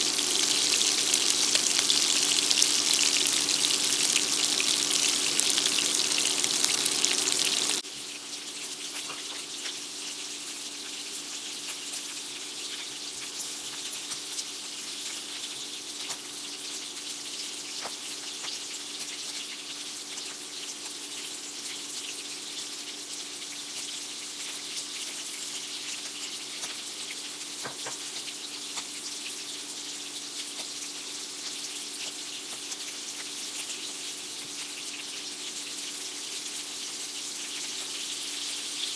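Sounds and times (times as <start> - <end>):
shrimp sizzling in oil: 0.0 - 38.9.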